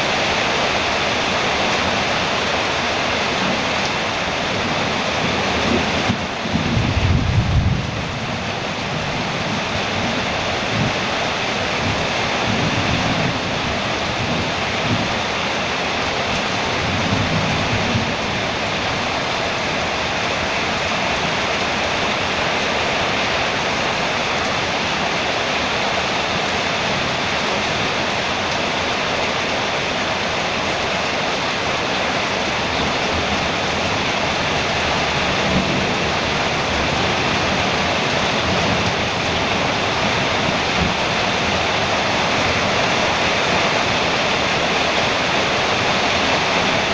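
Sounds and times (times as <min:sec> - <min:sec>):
heavy rain on metal roof: 0:00.0 - 0:46.9.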